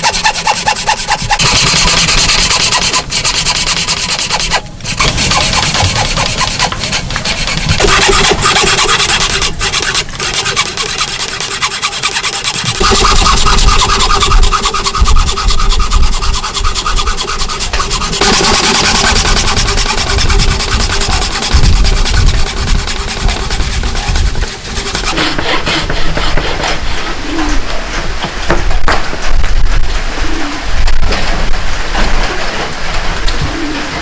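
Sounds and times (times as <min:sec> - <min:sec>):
hand tools rasping wood: 0:00.0 - 0:27.4.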